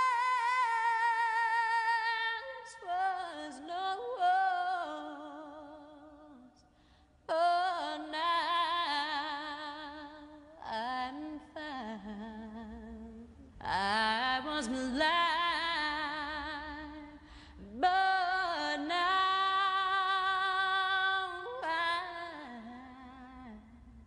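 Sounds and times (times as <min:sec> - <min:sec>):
woman singing with vibrato: 0:00.0 - 0:06.6, 0:07.3 - 0:24.0.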